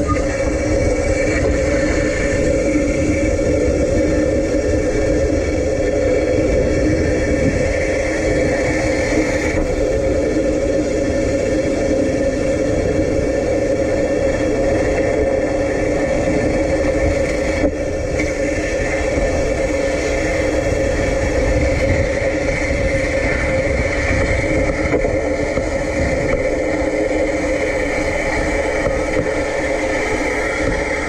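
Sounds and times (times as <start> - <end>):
high steady whine: 0.0 - 31.0
low rumble: 0.0 - 31.0
tram mechanical hum: 0.0 - 31.0.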